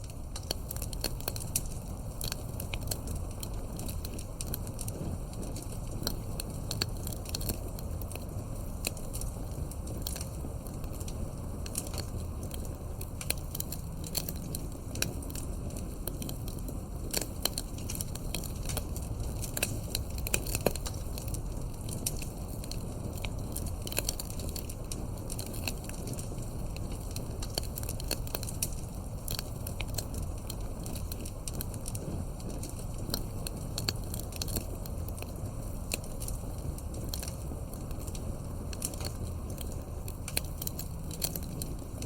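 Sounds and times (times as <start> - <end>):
low rumble of burning: 0.0 - 42.0
wood fire crackling and popping: 0.0 - 42.0.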